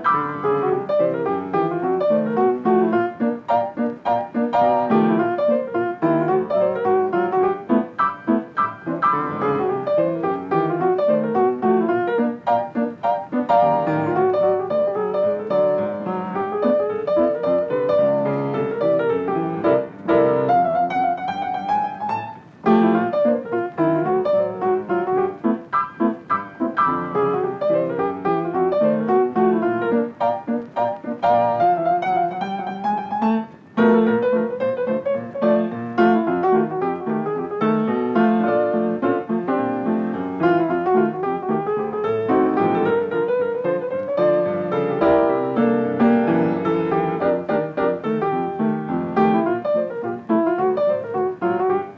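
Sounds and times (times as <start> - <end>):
piano music: 0.0 - 51.9.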